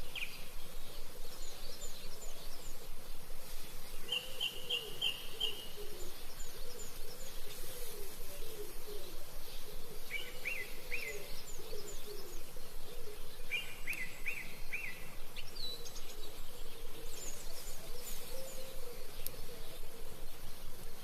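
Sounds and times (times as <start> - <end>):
birds chirping: 0.0 - 21.0
steady background hiss: 0.0 - 21.0.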